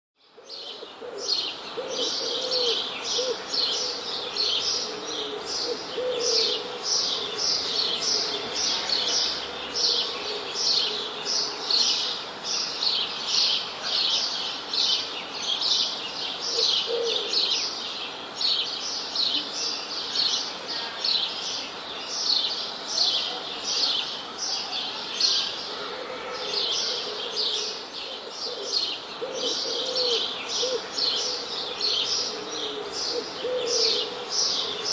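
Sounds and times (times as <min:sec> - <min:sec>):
songbirds chirping: 0:00.2 - 0:34.9.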